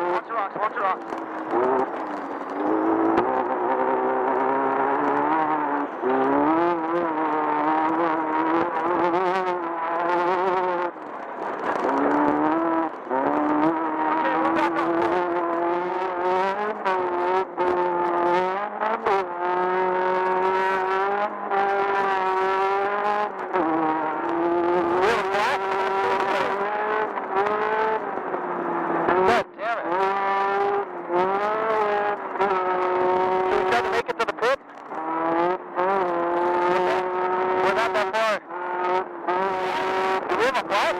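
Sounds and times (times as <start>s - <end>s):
buggy engine revving: 0.0s - 40.9s.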